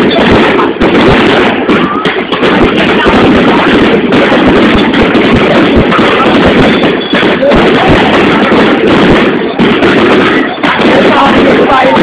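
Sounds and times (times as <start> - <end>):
crowd voices: 0.0 - 12.0
fireworks bangs: 0.0 - 12.0.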